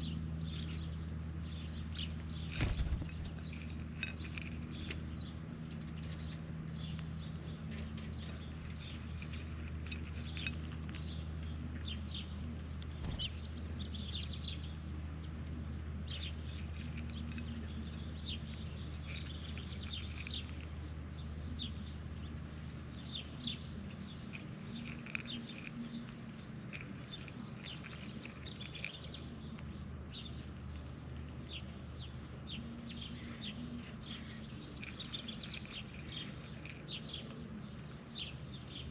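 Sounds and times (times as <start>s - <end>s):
birds chirping: 0.0s - 38.9s
steady low hum: 0.0s - 38.9s.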